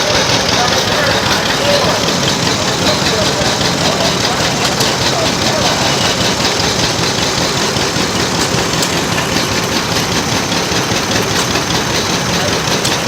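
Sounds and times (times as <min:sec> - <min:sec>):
engine running loudly: 0:00.0 - 0:13.0.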